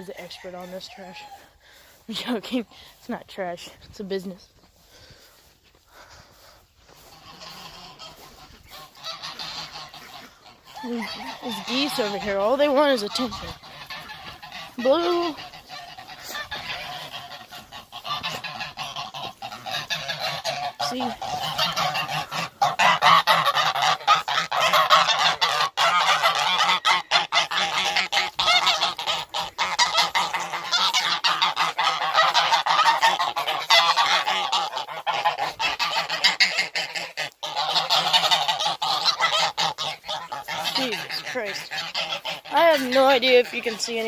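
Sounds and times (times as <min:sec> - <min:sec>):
geese honking: 0:00.0 - 0:44.0.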